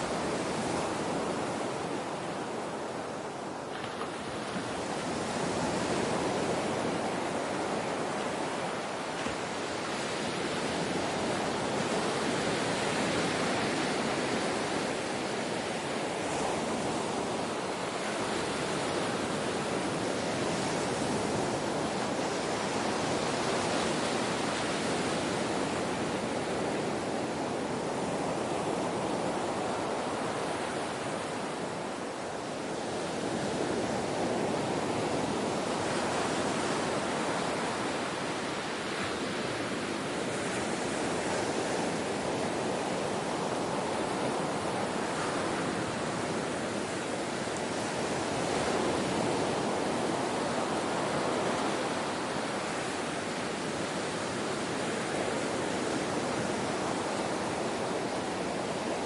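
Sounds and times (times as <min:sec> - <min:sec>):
ocean waves washing: 0:00.0 - 0:59.0.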